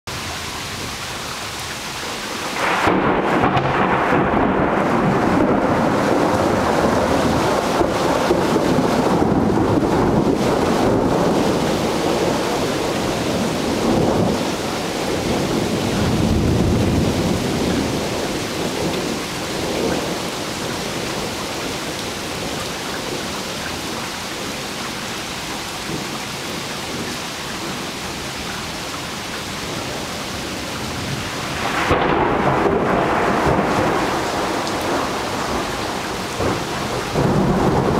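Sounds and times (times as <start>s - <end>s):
steady rain: 0.1s - 37.9s
thunder rumbling: 2.4s - 24.7s, 29.6s - 37.9s.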